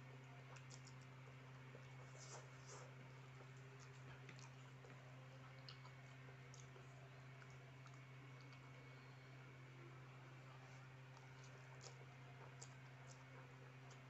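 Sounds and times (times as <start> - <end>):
chewing crunchy noodles: 0.0 - 9.0, 10.7 - 14.0
steady low hum: 0.0 - 14.0.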